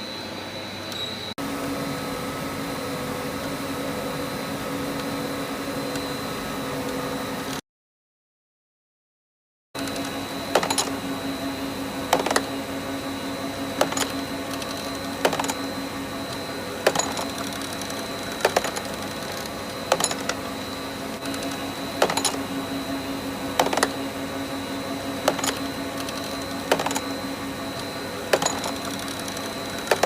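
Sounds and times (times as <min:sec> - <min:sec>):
grinder humming and whining: 0:00.0 - 0:07.6, 0:09.8 - 0:30.0.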